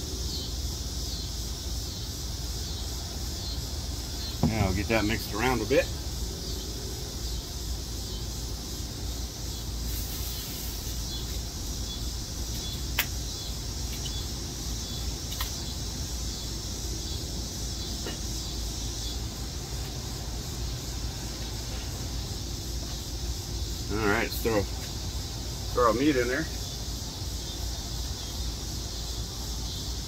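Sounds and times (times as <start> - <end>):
open fire hissing and rumbling: 0.0 - 30.0.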